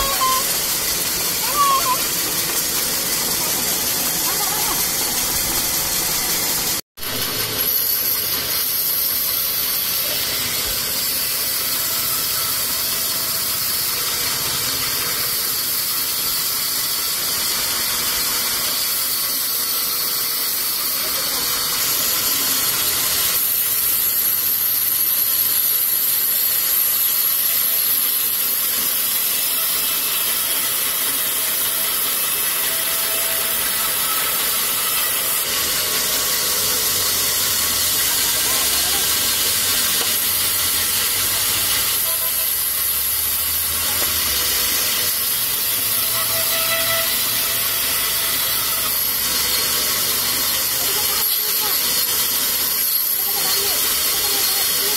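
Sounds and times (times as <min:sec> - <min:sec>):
band saw hissing: 0:00.0 - 0:54.9.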